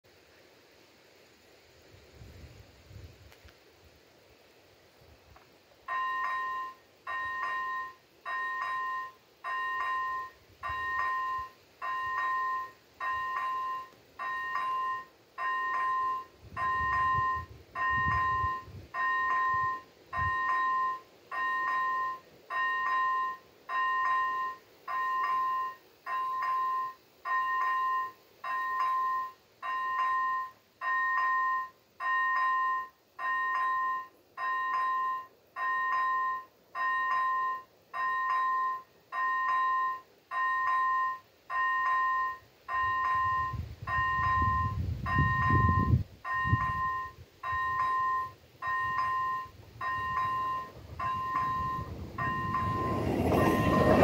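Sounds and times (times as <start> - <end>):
level crossing warning bell: 5.8 - 54.0.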